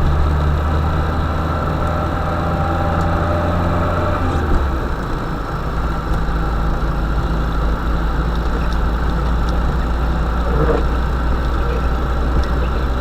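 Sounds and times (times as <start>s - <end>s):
van engine running at low revs: 0.0s - 13.0s.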